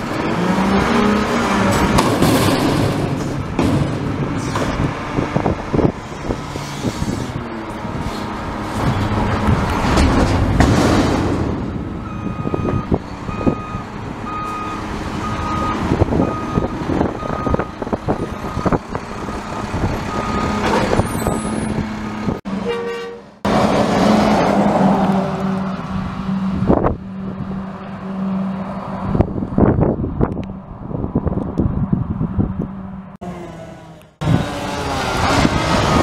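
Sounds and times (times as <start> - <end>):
garbage truck diesel engine: 0.0 - 29.6, 32.6 - 36.0.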